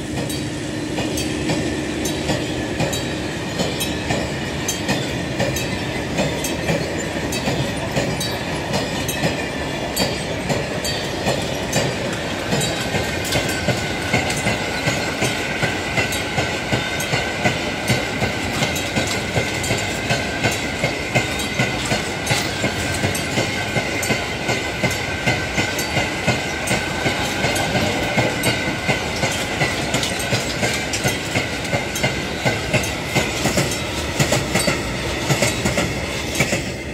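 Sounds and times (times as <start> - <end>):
wheels clicking over rail joints: 1.0 - 36.9.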